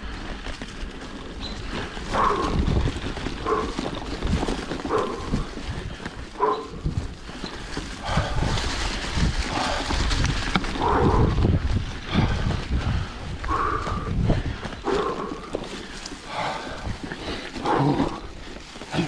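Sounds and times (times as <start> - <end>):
bike rolling over leafy dirt: 0.0 - 19.0
wind rumbling on microphone: 0.0 - 19.0.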